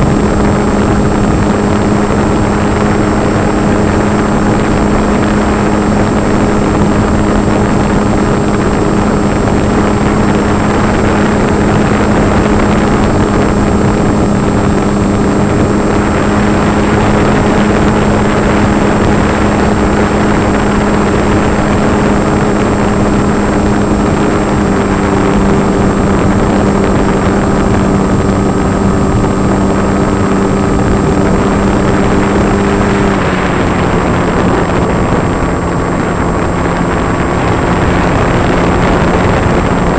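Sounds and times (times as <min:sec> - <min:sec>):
air rushing: 0:00.0 - 0:39.9
model plane motor humming: 0:00.0 - 0:39.9.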